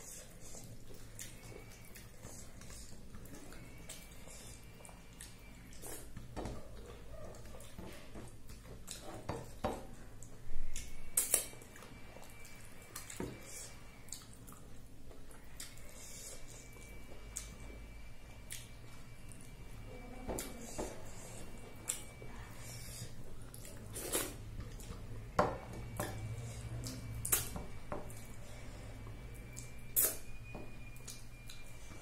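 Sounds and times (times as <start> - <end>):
person chewing: 0.0 - 19.6, 20.4 - 30.3.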